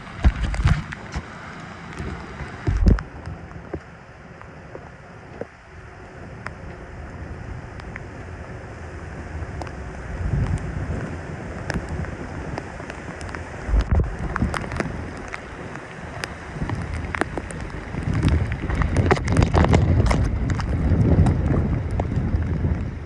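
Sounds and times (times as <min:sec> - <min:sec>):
wind buffeting microphone: 0:00.0 - 0:01.3, 0:01.9 - 0:03.8, 0:05.4 - 0:23.0.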